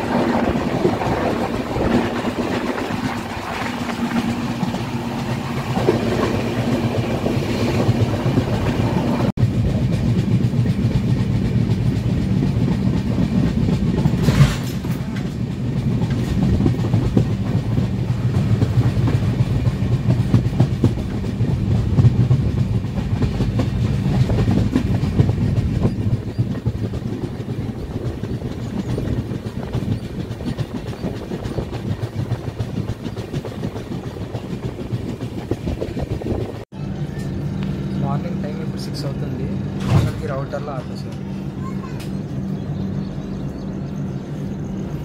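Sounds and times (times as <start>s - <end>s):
wheels clattering on rails: 0.0s - 42.6s
train rumbling: 0.0s - 45.0s.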